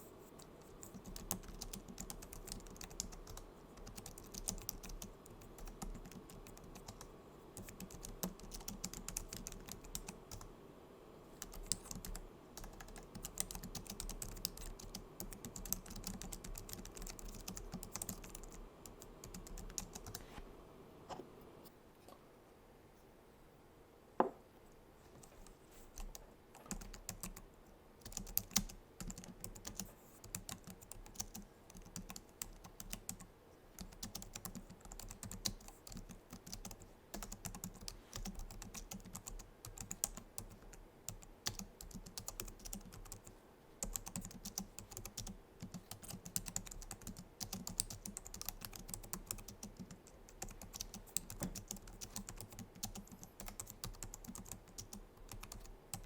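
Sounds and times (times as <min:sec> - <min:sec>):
keyboard typing: 0:00.4 - 0:10.5, 0:11.4 - 0:20.2, 0:25.2 - 0:56.0.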